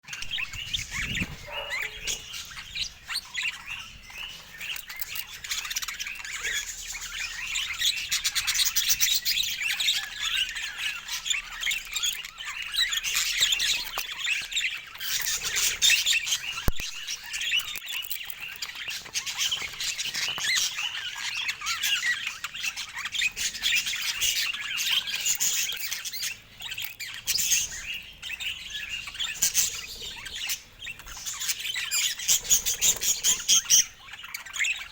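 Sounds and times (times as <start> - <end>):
budgerigars chirping and chattering: 0.0 - 34.9.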